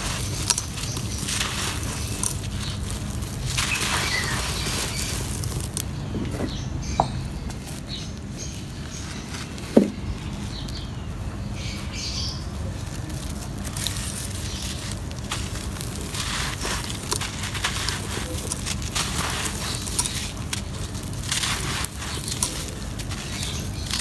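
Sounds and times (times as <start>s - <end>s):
dirt clump crunching: 0.0s - 10.9s, 11.9s - 24.0s
sand grains trickling: 0.0s - 24.0s.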